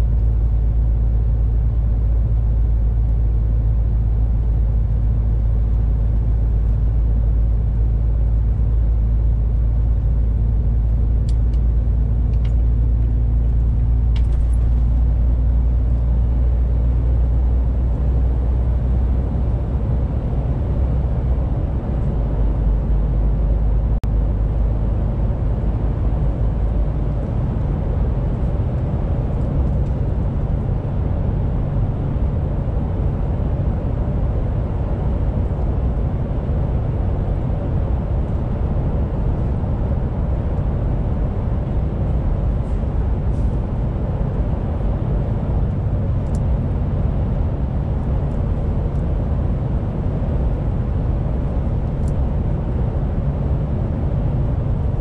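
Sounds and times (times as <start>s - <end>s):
diesel engine low drone: 0.0s - 55.0s
road and tyre noise: 0.0s - 55.0s.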